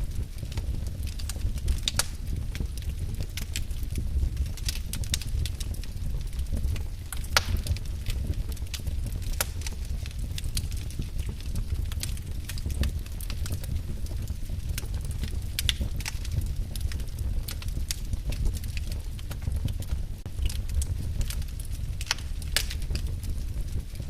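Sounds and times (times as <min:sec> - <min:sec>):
logs crackling and popping: 0:00.0 - 0:24.0
low rumble of flames: 0:00.0 - 0:24.0.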